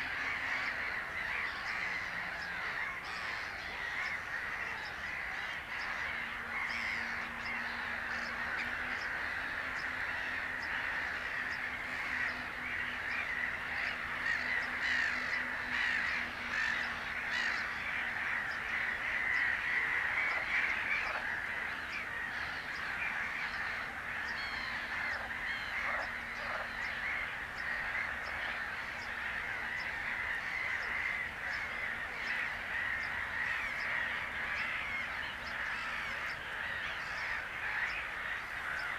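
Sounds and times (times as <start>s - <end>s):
chorus of birds calling: 0.0s - 38.9s.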